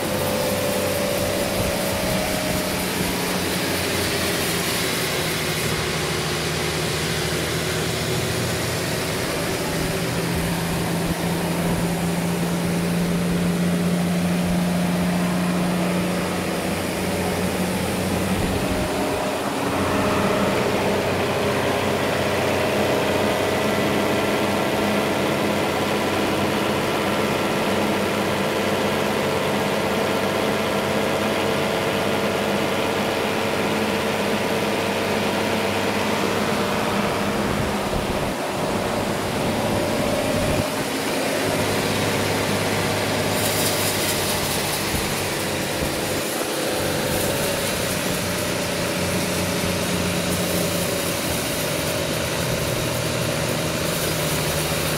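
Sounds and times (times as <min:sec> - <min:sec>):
sawmill engine running: 0:00.0 - 0:54.9.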